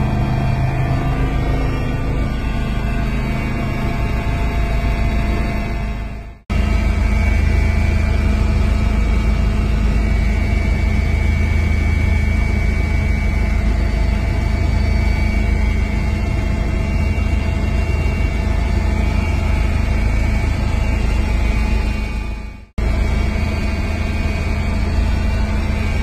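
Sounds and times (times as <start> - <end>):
helicopter engine and rotor drone: 0.0 - 26.0
high whine: 0.0 - 26.0.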